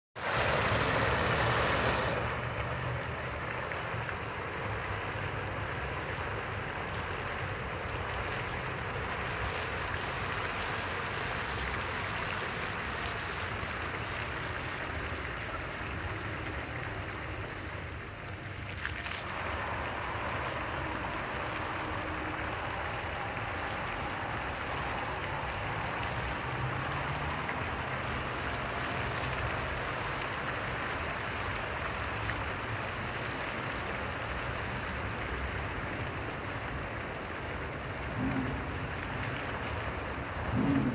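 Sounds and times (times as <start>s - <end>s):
fountain water splashing: 0.2s - 40.9s.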